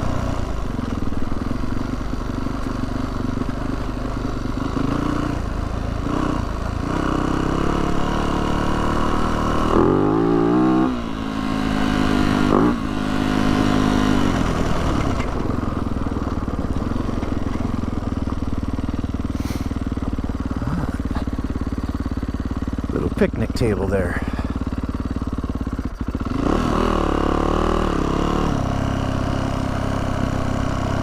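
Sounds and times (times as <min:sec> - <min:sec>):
dirt bike engine revving: 0:04.5 - 0:15.6, 0:16.6 - 0:31.0.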